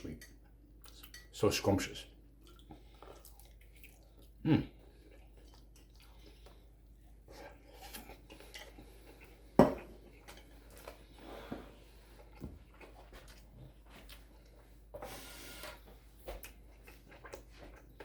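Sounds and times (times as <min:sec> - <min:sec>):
person chewing food: 0:02.2 - 0:18.0.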